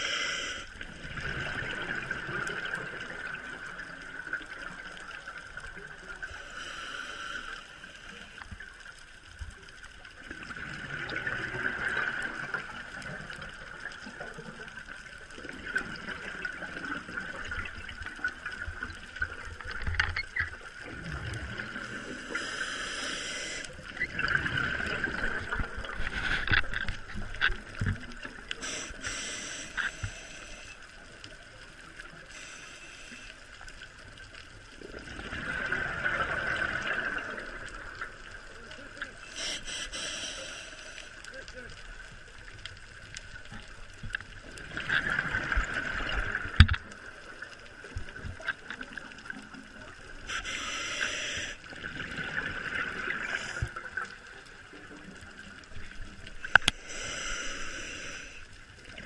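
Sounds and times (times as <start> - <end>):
faint steady hum: 0.0 - 59.0
underwater exhaled bubbles: 0.0 - 59.0.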